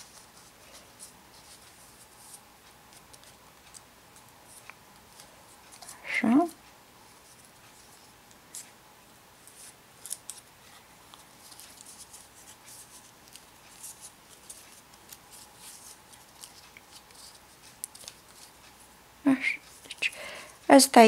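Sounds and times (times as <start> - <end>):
paper tubes rustling and crackling: 0.0 - 8.8, 9.4 - 18.8.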